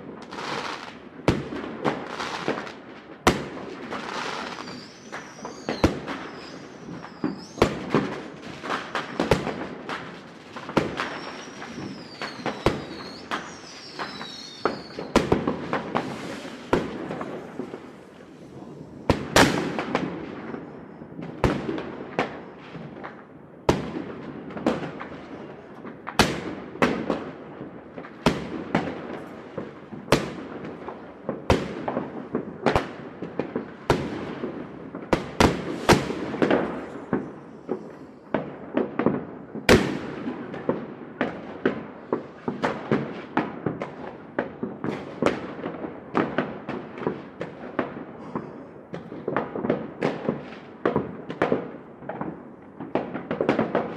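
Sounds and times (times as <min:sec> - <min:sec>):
fireworks bangs echoing: 0:00.0 - 0:53.9
fireworks crackling: 0:00.0 - 0:53.9.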